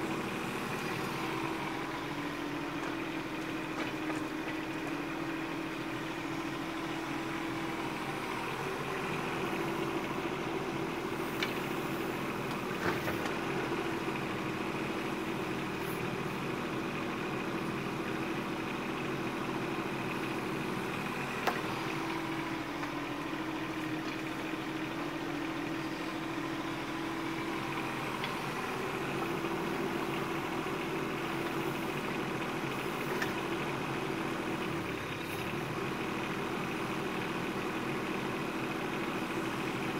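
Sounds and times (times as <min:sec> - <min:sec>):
mini excavator diesel engine: 0:00.0 - 0:39.9.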